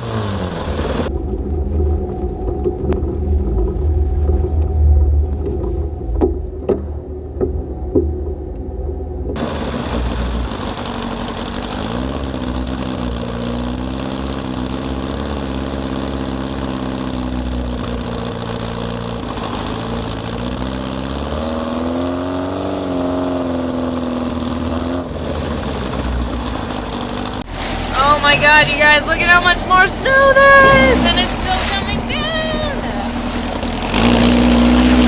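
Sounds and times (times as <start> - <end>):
car engine pulling: 0.0 - 35.0
wind and road noise: 0.0 - 35.0.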